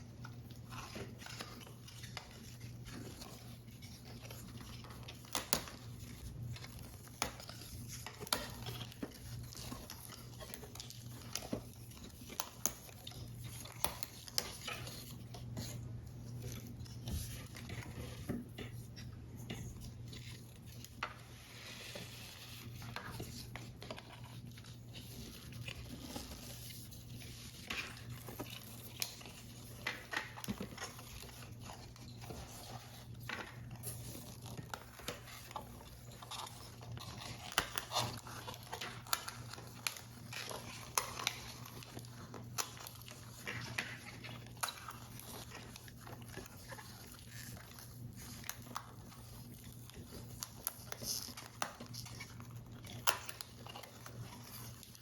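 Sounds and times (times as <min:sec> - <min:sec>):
paper crinkling: 0:00.0 - 0:55.0.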